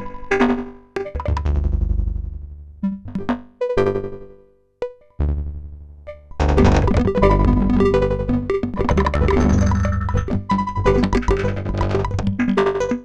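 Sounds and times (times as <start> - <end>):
synthesizer plucked notes: 1.0 - 13.0.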